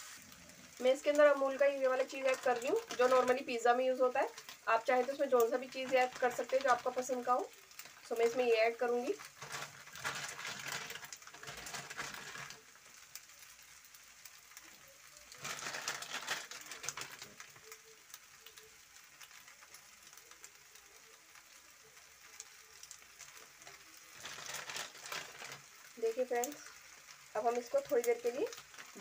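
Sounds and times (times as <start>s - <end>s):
pasta sizzling in a pan: 0.0s - 29.0s.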